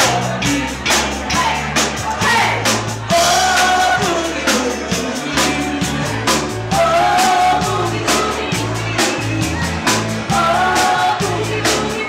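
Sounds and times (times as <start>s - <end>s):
bass line: 0.0s - 12.0s
person singing: 0.0s - 12.0s
steady beat: 0.0s - 12.0s.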